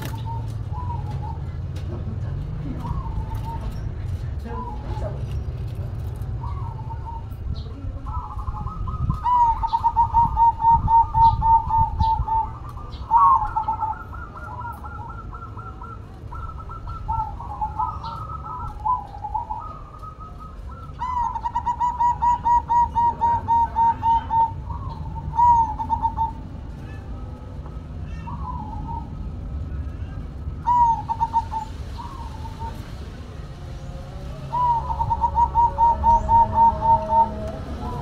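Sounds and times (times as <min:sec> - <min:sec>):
dove cooing: 0:00.0 - 0:05.3, 0:06.0 - 0:38.0
low steady background rumble: 0:00.0 - 0:38.0.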